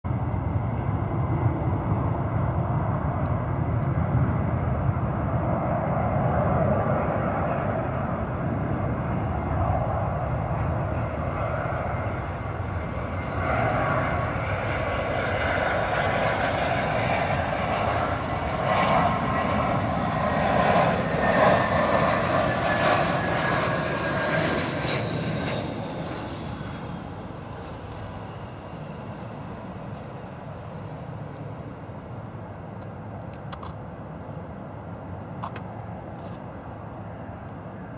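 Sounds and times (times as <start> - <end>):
jet engines on approach: 0.1 - 37.9.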